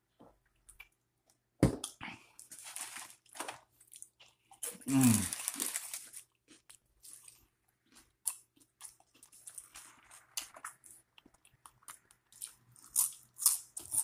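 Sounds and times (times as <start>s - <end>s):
crisp food crunching: 2.4s - 14.0s.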